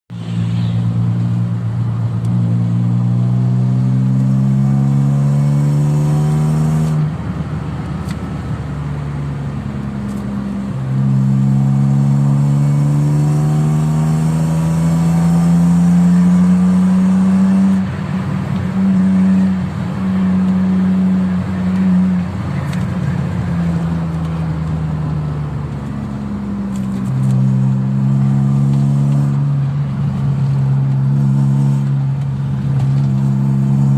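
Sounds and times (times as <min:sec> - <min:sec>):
car engine accelerating: 0:00.1 - 0:33.9.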